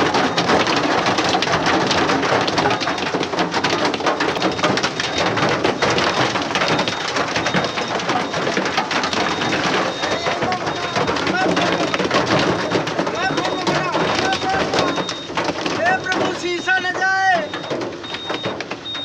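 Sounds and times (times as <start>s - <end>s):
heavy rain on a hard surface: 0.0s - 19.0s.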